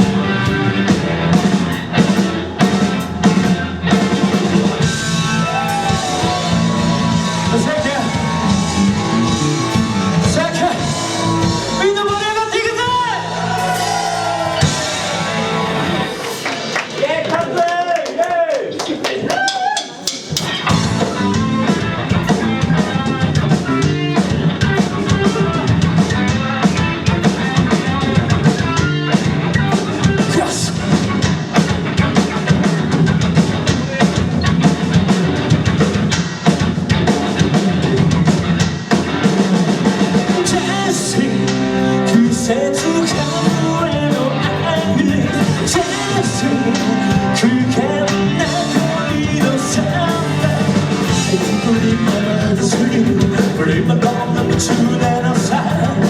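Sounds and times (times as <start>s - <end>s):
live rock band playing: 0.0s - 17.0s, 19.8s - 56.0s.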